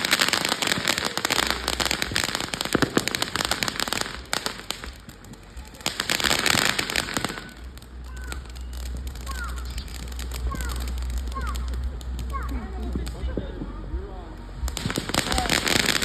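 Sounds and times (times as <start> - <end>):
fireworks crackling pops: 0.0 - 16.0.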